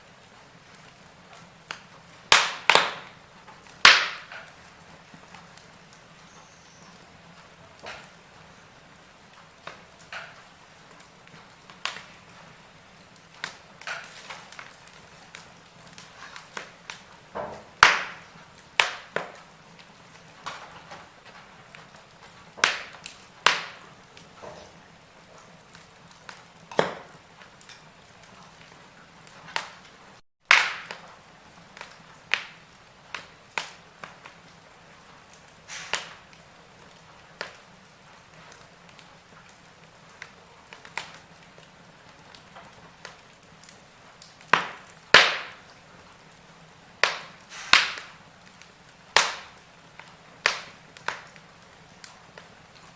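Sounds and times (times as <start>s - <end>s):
faint steady hiss: 0.0s - 52.9s
wood fire crackling and popping: 0.0s - 52.9s.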